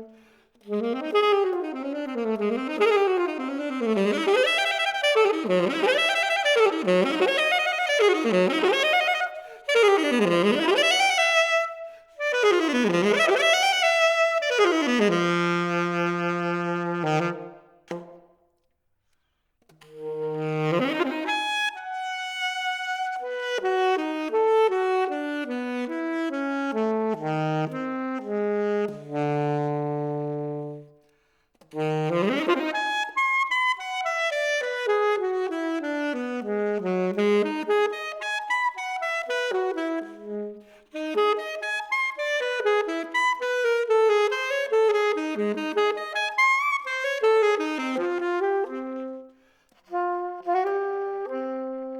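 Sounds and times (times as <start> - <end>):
solo saxophone jazz runs: 0.0 - 18.3, 19.8 - 51.9.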